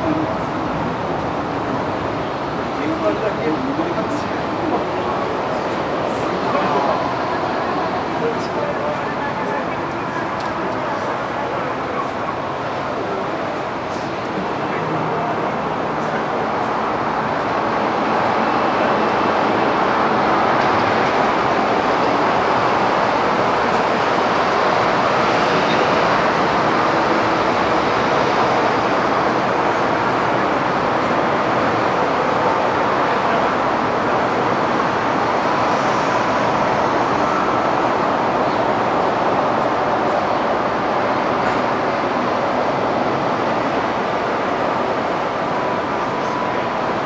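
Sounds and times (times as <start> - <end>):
aircraft engines roaring: 0.0 - 47.0.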